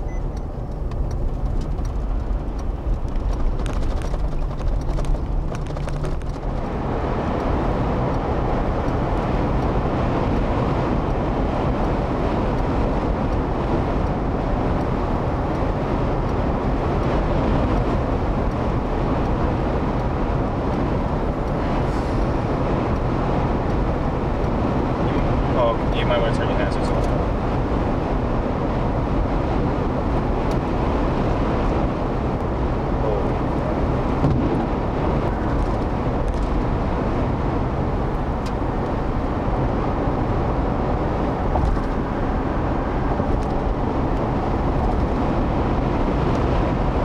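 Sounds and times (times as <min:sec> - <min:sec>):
car road and wind noise: 0:00.0 - 0:47.0.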